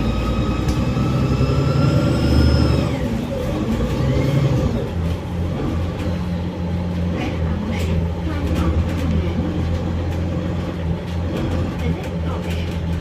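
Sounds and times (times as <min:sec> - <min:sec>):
bus engine with rising whine: 0:00.0 - 0:13.0.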